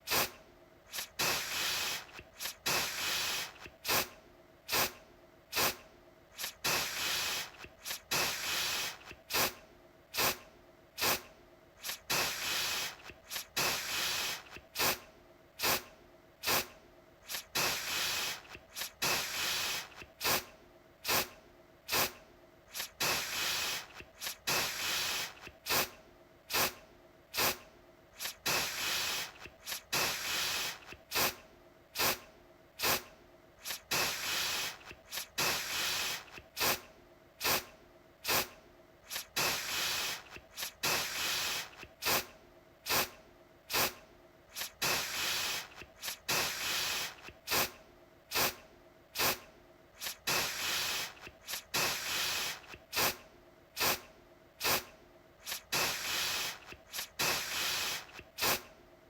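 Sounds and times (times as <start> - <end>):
aerosol can spraying: 0.1 - 9.6, 10.2 - 10.4, 11.0 - 15.0, 15.6 - 15.8, 16.4 - 21.3, 21.9 - 27.6, 28.2 - 31.4, 32.0 - 32.2, 32.8 - 42.3, 42.9 - 48.6, 49.2 - 49.4, 50.0 - 53.2, 53.8 - 58.7.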